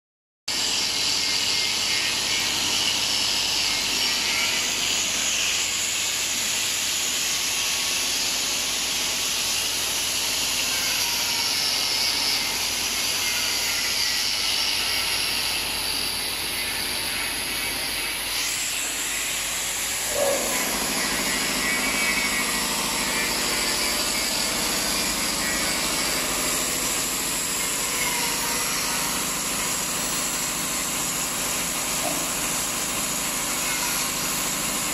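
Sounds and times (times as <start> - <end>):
machine running with hiss: 0.5 - 34.9.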